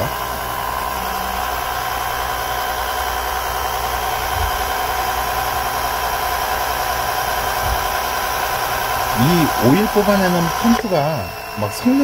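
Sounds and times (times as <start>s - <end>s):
electric pump motor whine: 0.0s - 12.0s.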